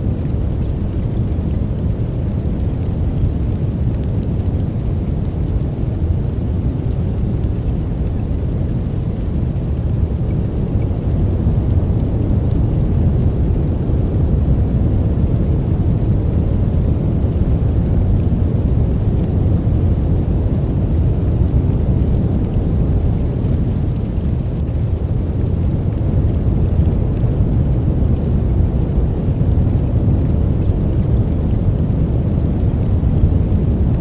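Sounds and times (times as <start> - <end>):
deep brown noise: 0.0 - 34.0.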